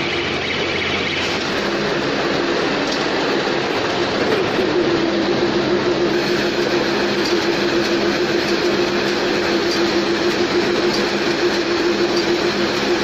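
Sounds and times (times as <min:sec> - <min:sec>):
baler machine running: 0:00.0 - 0:13.0.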